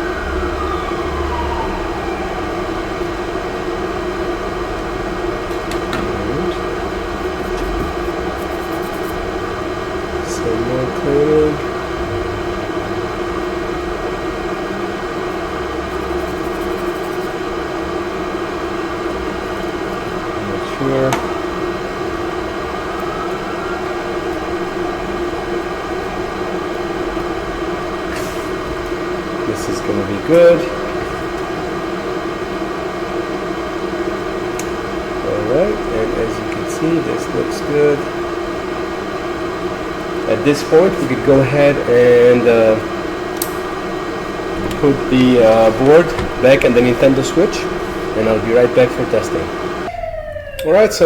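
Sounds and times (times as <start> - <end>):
small fan humming: 0.0 - 51.0.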